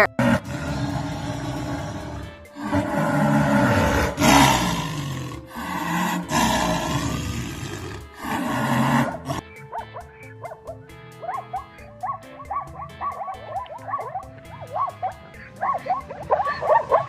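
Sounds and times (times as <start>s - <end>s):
animal giving long calls: 0.0s - 17.0s.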